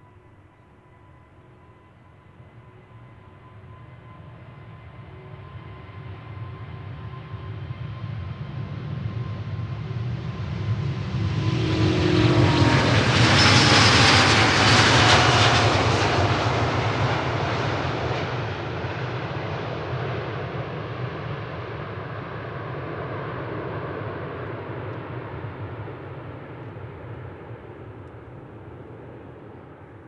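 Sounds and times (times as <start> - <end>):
jet aircraft roaring past: 2.5 - 30.0.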